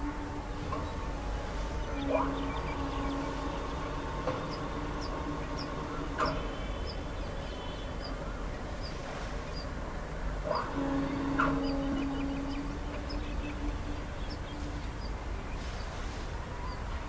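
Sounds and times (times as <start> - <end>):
steady low hum: 0.0 - 17.0
bird chirping: 0.7 - 9.7, 10.5 - 16.0.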